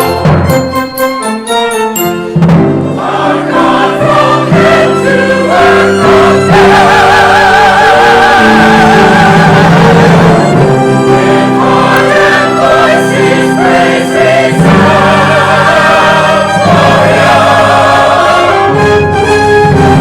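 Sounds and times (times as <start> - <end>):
orchestra playing: 0.0 - 20.0
choir singing: 2.3 - 20.0.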